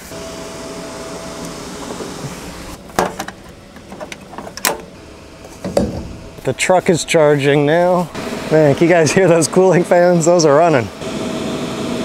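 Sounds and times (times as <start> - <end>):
cooling fans whirring: 0.0 - 12.0.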